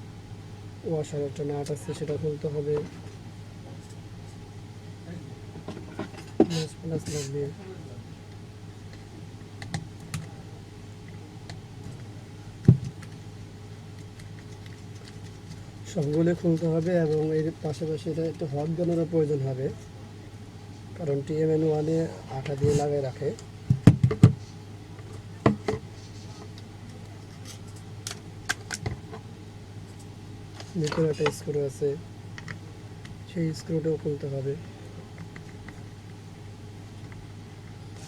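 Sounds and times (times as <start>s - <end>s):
faint low hum: 0.0s - 38.0s.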